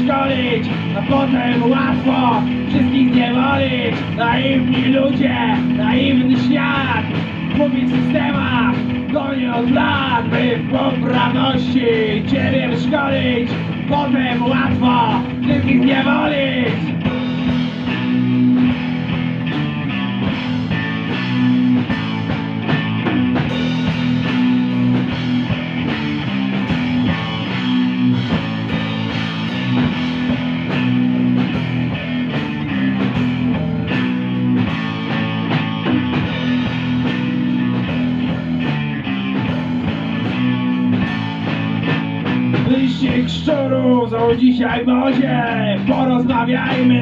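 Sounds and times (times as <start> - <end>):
bass guitar: 0.0 - 47.0
drum kit: 0.0 - 47.0
electric guitars: 0.0 - 47.0.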